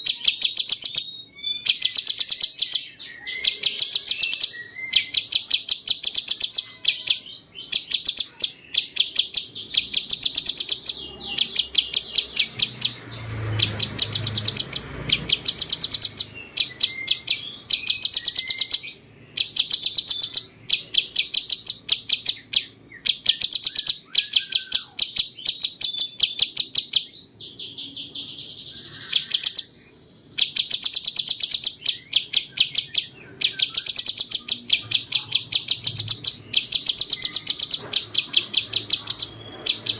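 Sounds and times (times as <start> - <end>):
bulbul singing rattling trills: 0.0 - 39.9.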